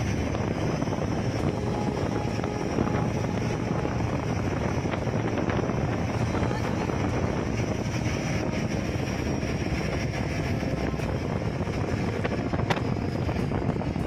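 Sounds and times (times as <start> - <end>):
boat engine rumble: 0.0 - 14.0
wind noise on microphone: 0.0 - 14.0.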